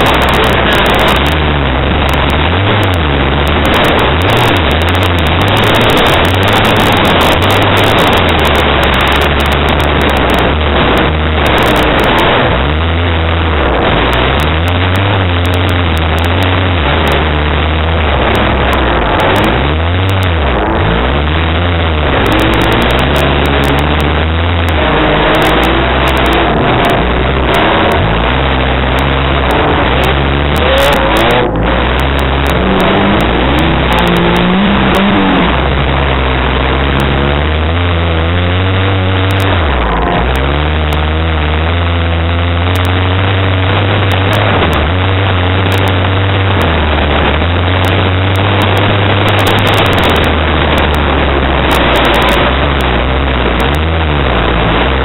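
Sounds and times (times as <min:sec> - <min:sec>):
car engine revving under load: 0:00.0 - 0:55.0.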